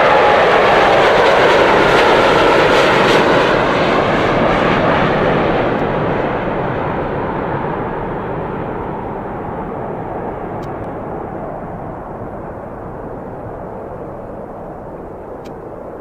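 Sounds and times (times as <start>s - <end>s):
airplane engine roar: 0.0s - 16.0s.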